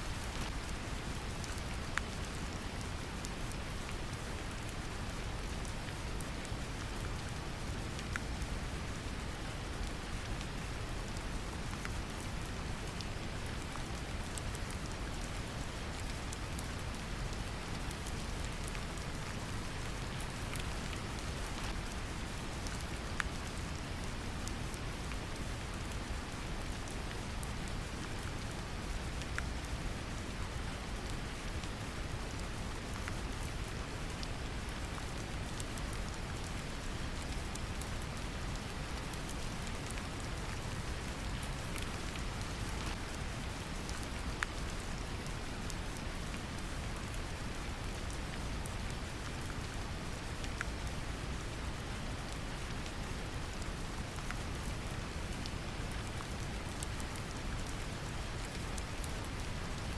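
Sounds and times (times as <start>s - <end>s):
gentle rain pattering: 0.0s - 59.9s.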